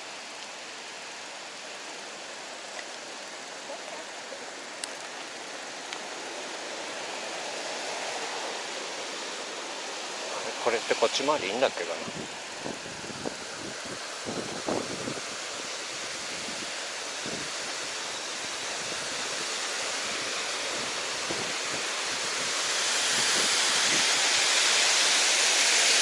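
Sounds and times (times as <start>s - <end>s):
water rushing from dam release: 0.0s - 26.0s.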